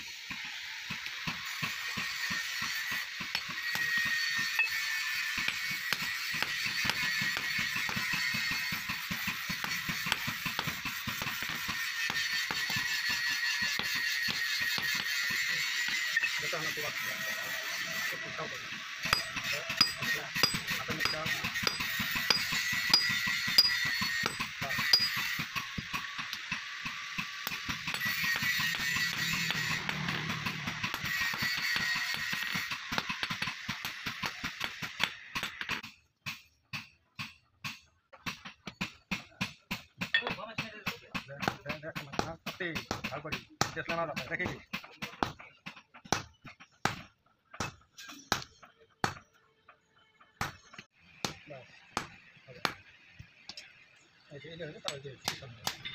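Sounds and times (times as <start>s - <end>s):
hammer striking steel on anvil: 0.9s - 16.7s, 19.0s - 26.6s, 27.2s - 45.4s, 46.0s - 49.3s, 50.4s - 52.9s, 54.8s - 55.9s.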